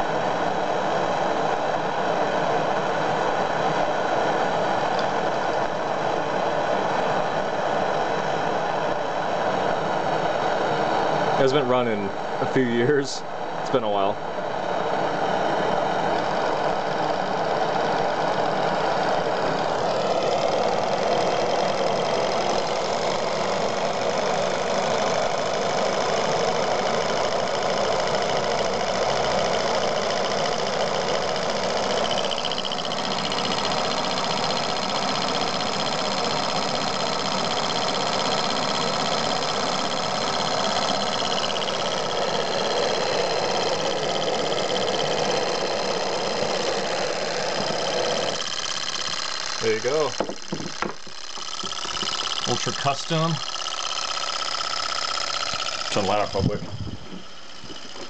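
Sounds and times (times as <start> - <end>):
fast mechanical engine ticking: 0.0 - 58.0
gas torch flame roaring: 0.0 - 58.0.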